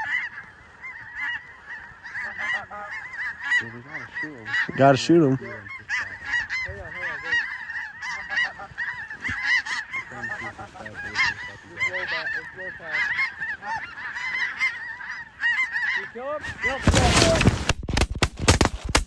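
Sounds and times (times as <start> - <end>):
geese calling: 0.0 - 17.7.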